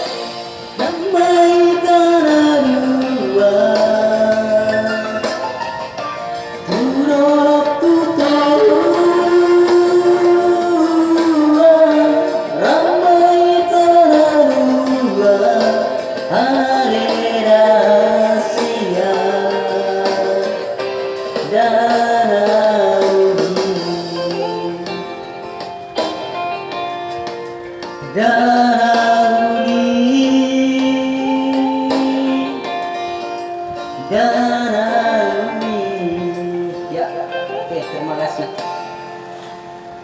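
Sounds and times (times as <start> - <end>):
backing music: 0.0 - 40.0
person singing slowly: 0.8 - 6.0, 6.6 - 25.4, 28.0 - 37.4.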